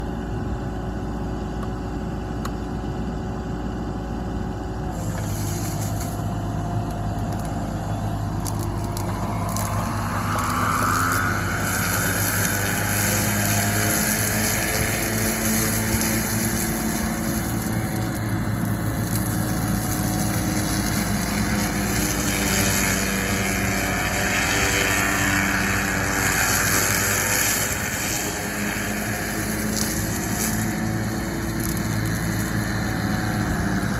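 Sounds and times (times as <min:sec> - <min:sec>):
diesel engine running steadily: 0:00.0 - 0:33.9
high mechanical whine: 0:00.0 - 0:33.9.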